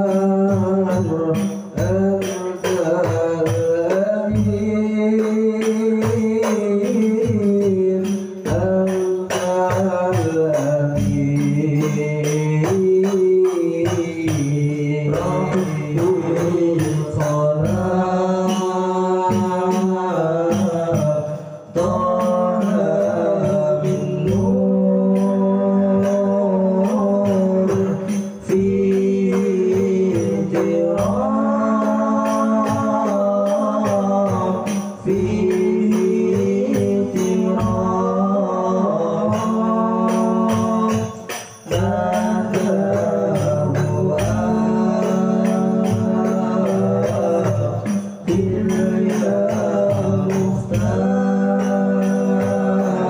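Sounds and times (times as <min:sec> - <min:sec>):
frame drums beating: 0:00.0 - 0:53.0
man singing devotional melody: 0:00.0 - 0:53.0.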